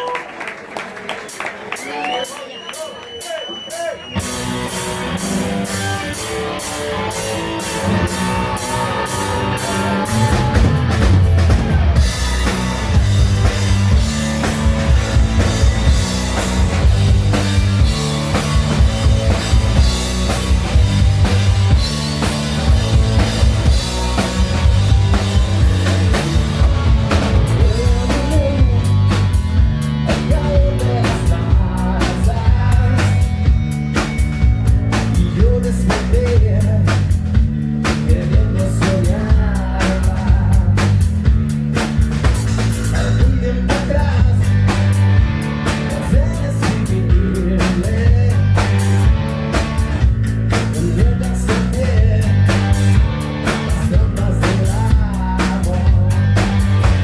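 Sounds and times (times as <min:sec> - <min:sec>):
drum kit beat: 0:01.3 - 0:57.0
hard rock band playing live: 0:03.1 - 0:57.0.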